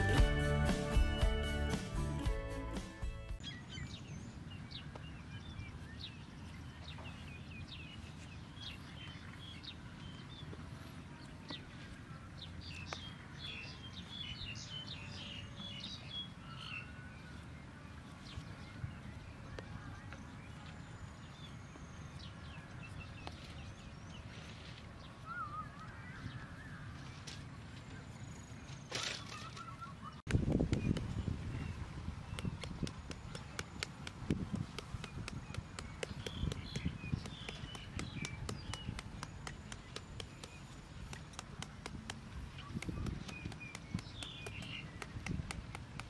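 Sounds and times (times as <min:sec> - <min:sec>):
small birds chirping: 0:03.3 - 0:46.0.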